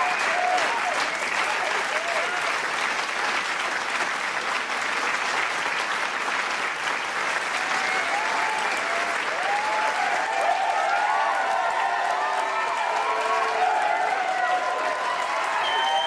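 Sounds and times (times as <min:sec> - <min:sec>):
crowd applauding: 0:00.0 - 0:16.0
crowd cheering: 0:00.0 - 0:16.0.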